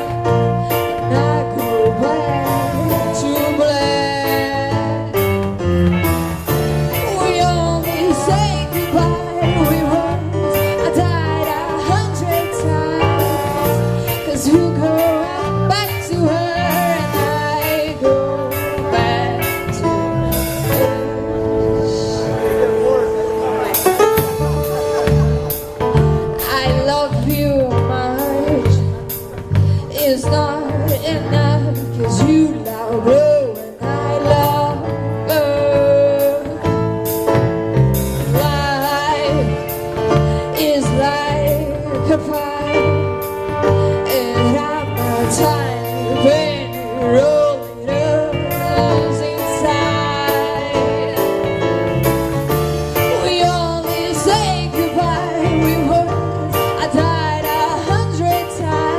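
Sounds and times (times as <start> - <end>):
woman singing: 0.0 - 5.4, 6.8 - 22.3, 26.2 - 37.4, 38.2 - 52.1, 53.0 - 58.9
live band playing: 0.0 - 58.9.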